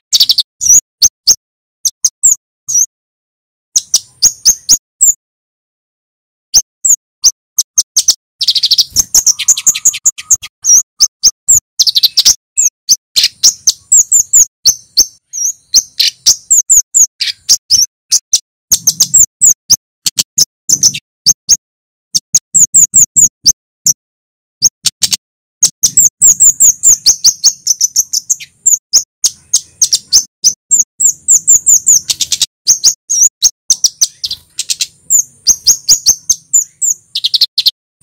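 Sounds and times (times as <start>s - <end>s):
bird chips and trills: 0.0s - 2.9s, 3.7s - 5.2s, 6.5s - 24.0s, 24.6s - 37.8s.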